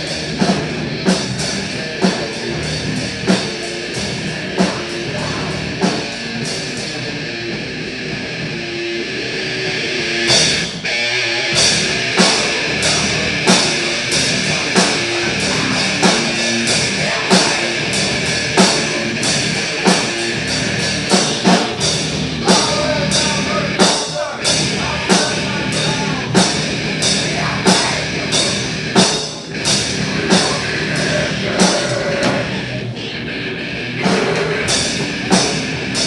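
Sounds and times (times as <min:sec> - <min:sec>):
drum and cymbal hits: 0:00.0 - 0:07.0, 0:10.1 - 0:32.7, 0:34.0 - 0:36.0
rock band playing: 0:00.0 - 0:36.0.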